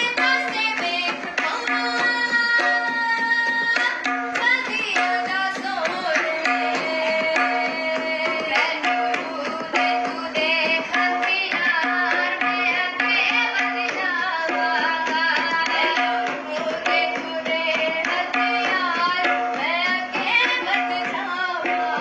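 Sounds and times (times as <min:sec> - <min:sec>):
tabla strokes: 0:00.0 - 0:22.0.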